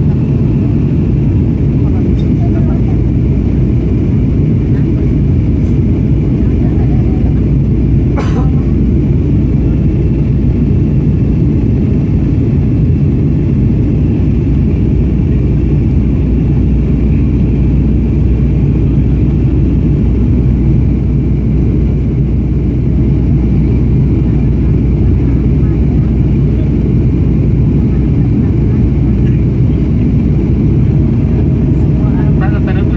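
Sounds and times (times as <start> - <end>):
airplane cabin engine roar: 0.0 - 32.9.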